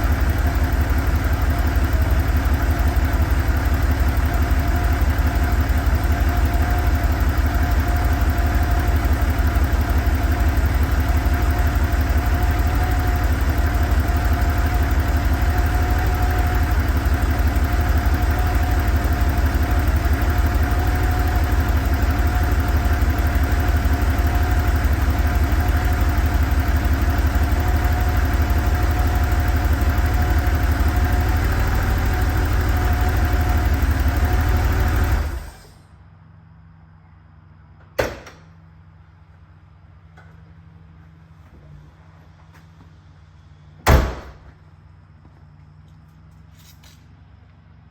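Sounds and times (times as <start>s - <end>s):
car engine idling: 0.0s - 46.5s.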